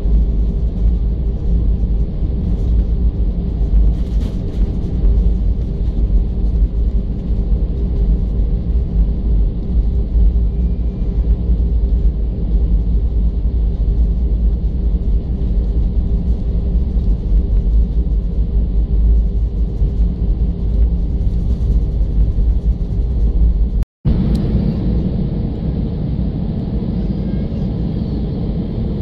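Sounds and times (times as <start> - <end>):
jet engines humming: 0.0 - 29.0
wheels and airframe rumbling: 0.0 - 29.0.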